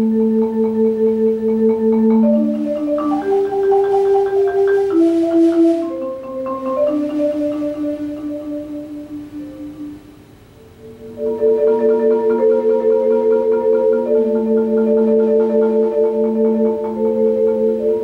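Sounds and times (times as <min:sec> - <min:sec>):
marimba rolled chords: 0:00.0 - 0:18.0.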